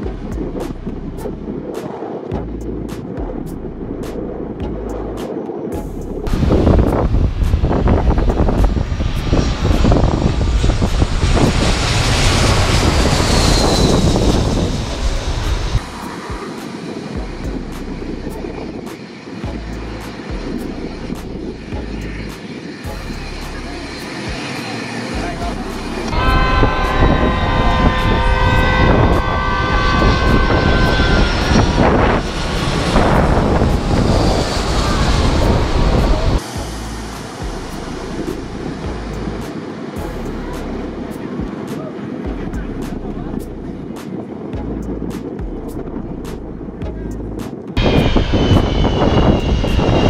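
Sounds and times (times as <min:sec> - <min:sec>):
wind buffeting microphone: 0:00.0 - 0:50.0
jet airliner passing overhead: 0:05.2 - 0:50.0.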